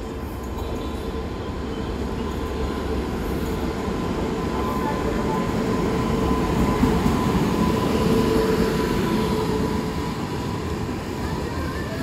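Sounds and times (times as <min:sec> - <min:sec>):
steady locomotive whine: 0:00.0 - 0:12.0
train wheels rumbling on rail: 0:00.0 - 0:12.0.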